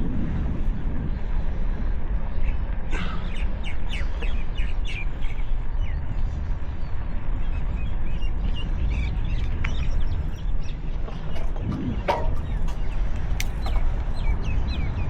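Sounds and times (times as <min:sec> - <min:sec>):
wind on microphone: 0:00.0 - 0:15.0
birds chirping: 0:02.2 - 0:15.0.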